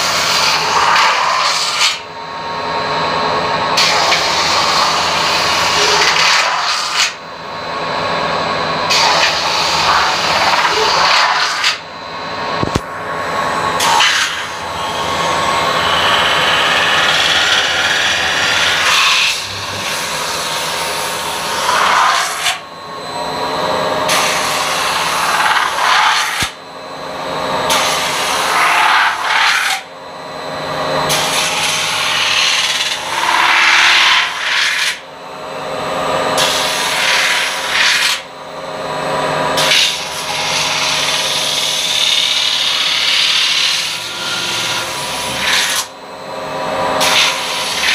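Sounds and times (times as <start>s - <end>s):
machine hum: 0.0s - 47.9s.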